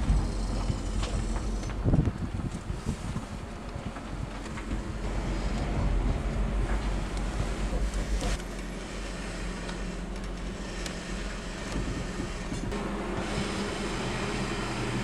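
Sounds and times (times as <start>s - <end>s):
electric motor hum and whine: 0.0s - 15.0s
low rumble: 0.0s - 15.0s
road noise: 0.0s - 15.0s.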